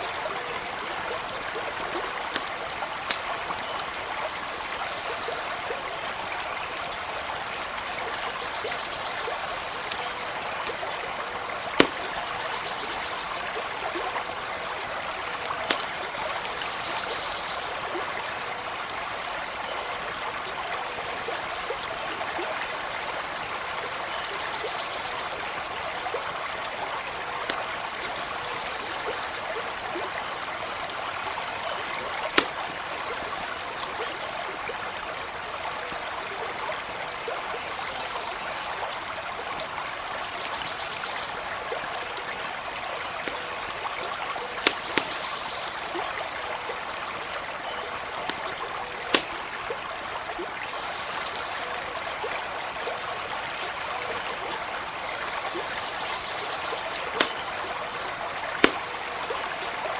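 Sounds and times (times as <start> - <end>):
running stream: 0.0 - 59.9
campfire crackling and popping: 0.2 - 16.5, 17.6 - 37.4, 38.0 - 40.7, 41.6 - 59.9.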